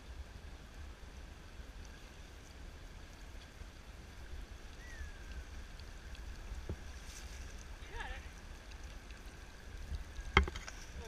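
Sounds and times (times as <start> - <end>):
creek running over stones: 0.0 - 11.0.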